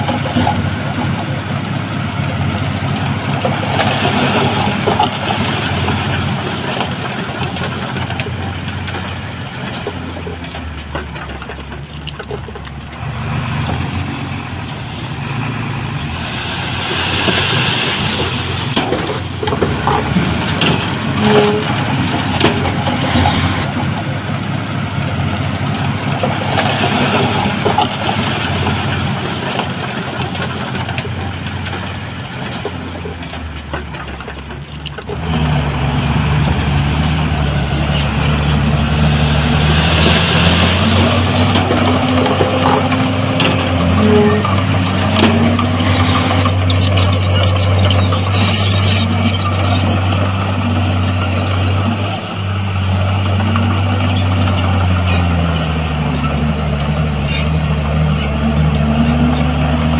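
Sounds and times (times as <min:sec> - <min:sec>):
diesel engine of earthmover: 0:00.0 - 0:59.9.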